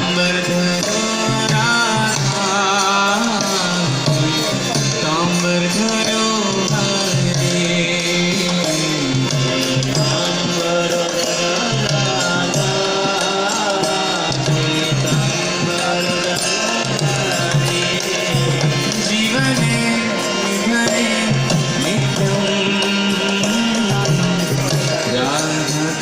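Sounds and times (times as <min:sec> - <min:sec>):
devotional chanted melody: 0:00.0 - 0:26.0
hand drums rhythm: 0:00.0 - 0:26.0.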